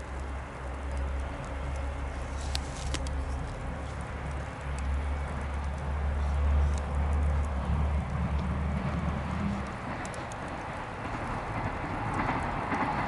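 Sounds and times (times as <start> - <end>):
bonfire crackling: 0.0 - 13.0
fire popping: 0.0 - 13.0
train rumbling: 0.0 - 13.0.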